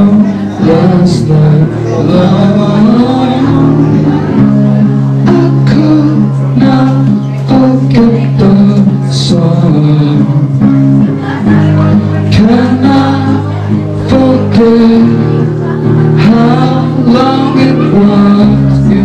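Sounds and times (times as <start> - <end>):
electric guitar low notes: 0.0 - 19.0.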